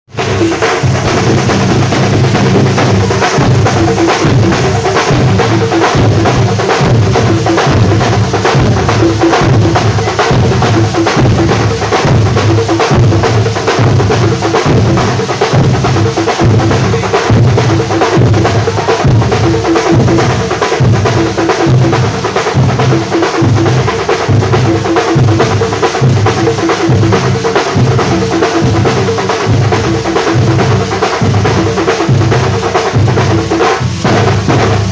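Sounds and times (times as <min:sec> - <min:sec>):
bass drum and snare beat: 0:00.1 - 0:34.9.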